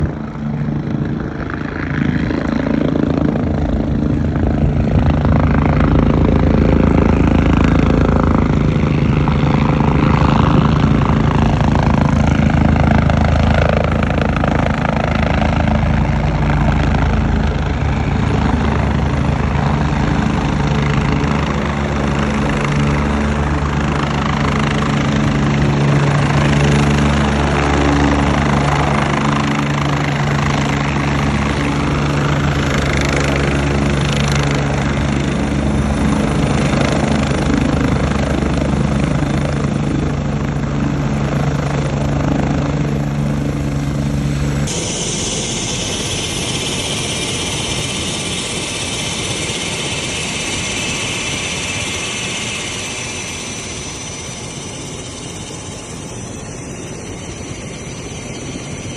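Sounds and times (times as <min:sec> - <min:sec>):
helicopter engine drone: 0:00.0 - 0:58.9.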